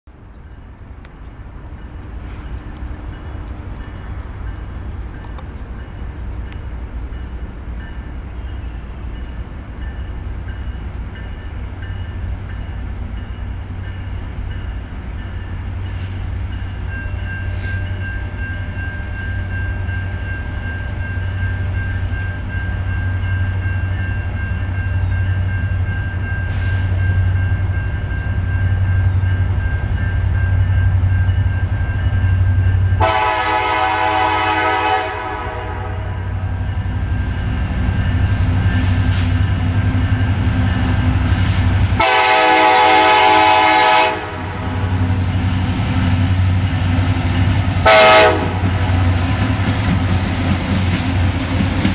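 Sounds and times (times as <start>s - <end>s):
diesel locomotive rumble: 0.1s - 51.9s.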